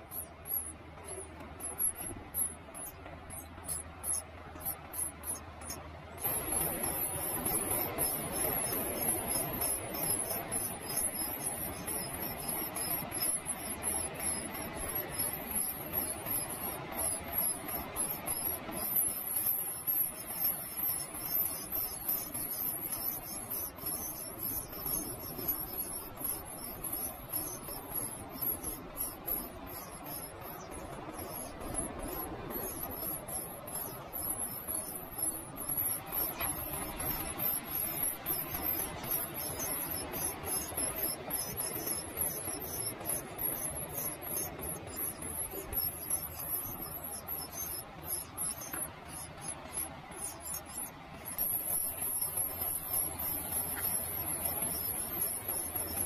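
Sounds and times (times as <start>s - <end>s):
nestlings cheeping: 0.0s - 56.0s.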